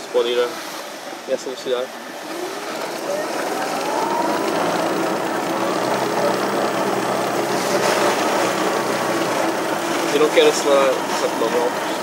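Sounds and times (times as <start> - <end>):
electric motor whine: 2.2 - 12.0.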